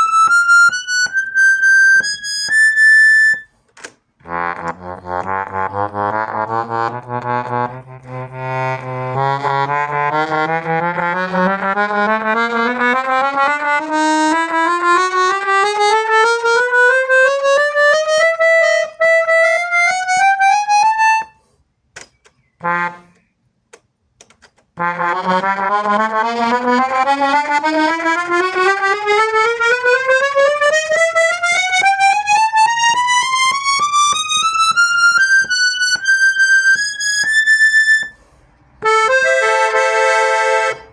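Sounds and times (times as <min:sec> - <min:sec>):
accordion playing rising scale: 0:00.0 - 0:03.5, 0:04.2 - 0:21.4, 0:22.6 - 0:23.2, 0:24.8 - 0:40.9.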